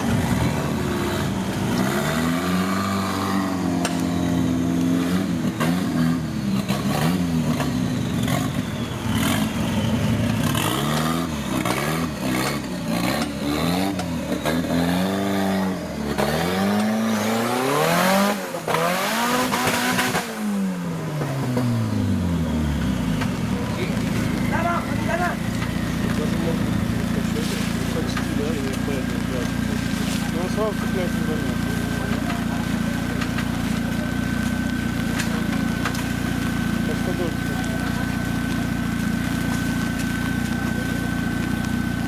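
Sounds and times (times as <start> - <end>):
engine revving: 0.0 - 42.0.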